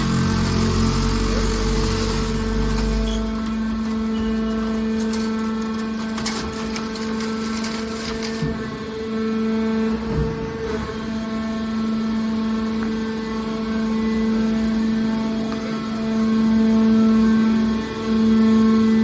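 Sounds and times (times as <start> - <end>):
baler motor and pump hum: 0.0 - 19.0.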